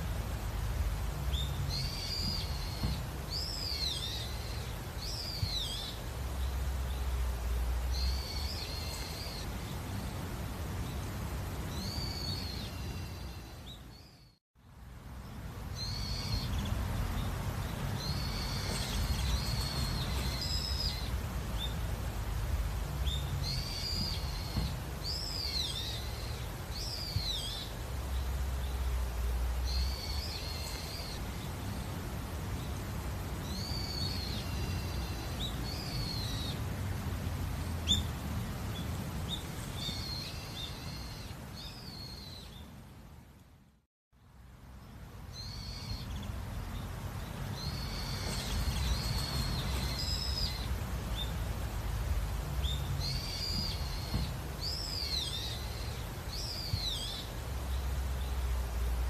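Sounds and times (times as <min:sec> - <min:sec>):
birds chirping: 0:00.0 - 0:59.0
low steady rumble: 0:00.0 - 0:59.0.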